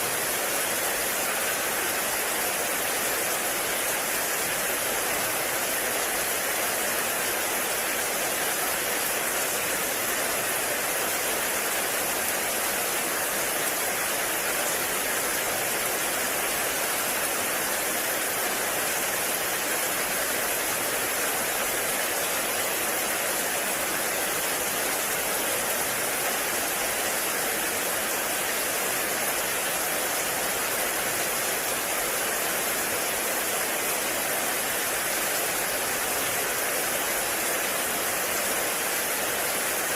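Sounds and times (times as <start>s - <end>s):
heavy rain in forest: 0.0s - 39.9s.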